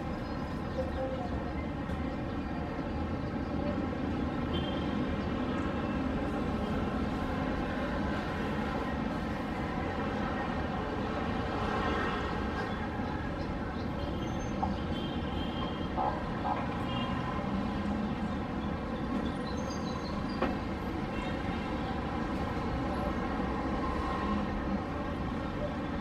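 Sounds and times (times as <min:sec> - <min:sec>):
distant city traffic hum: 0:00.0 - 0:26.0.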